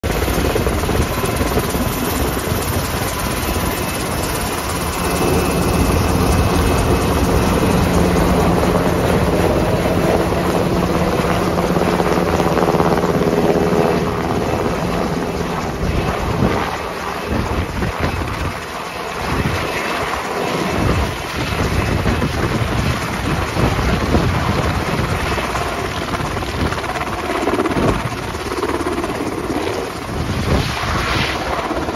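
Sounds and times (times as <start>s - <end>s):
helicopter engine and rotor: 0.0s - 31.9s.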